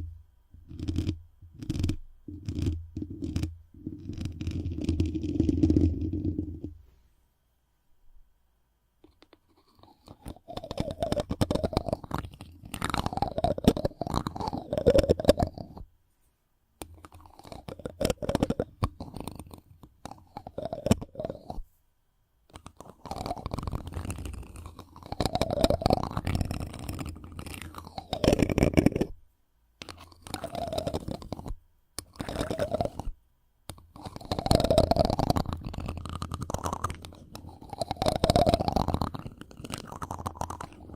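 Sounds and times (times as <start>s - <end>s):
rubbing on microphone: 0.0s - 7.2s, 9.0s - 21.8s, 22.5s - 29.2s, 29.8s - 40.9s.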